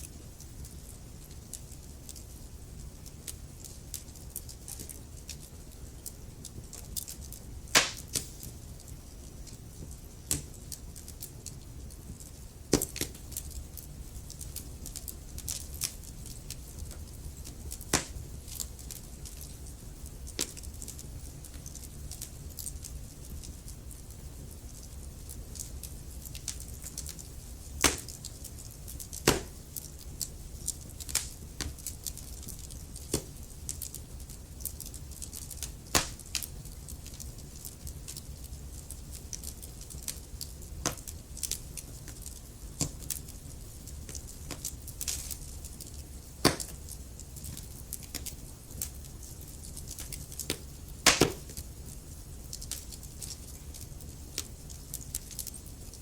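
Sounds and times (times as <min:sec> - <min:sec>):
fire rumbling: 0:00.0 - 0:56.0
wood crackling and popping: 0:00.0 - 0:56.0.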